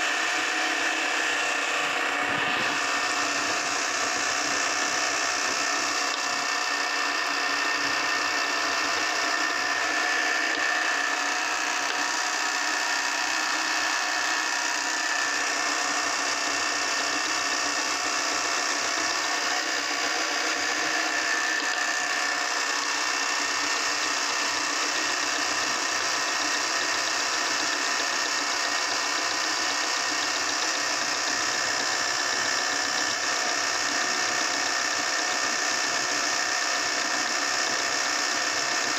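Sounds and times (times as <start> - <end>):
meat grinder humming and whining: 0.0 - 38.9.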